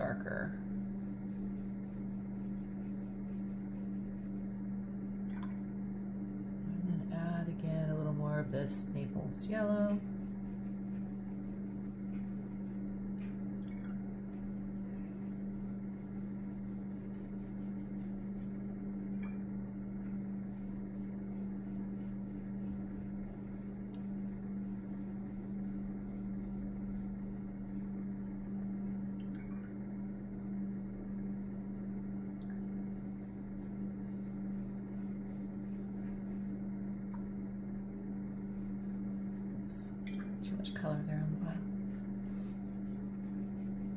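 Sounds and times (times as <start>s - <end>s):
low room hum: 0.0s - 43.9s.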